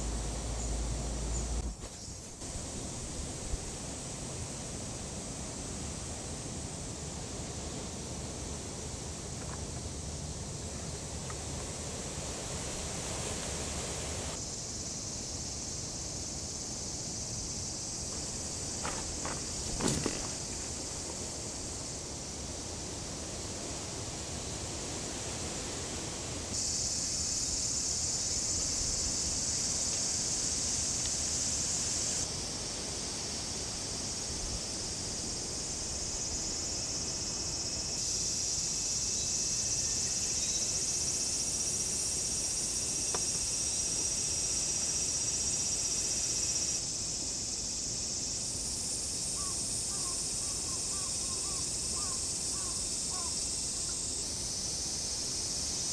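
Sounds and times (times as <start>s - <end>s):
insects buzzing: 0.0s - 55.9s.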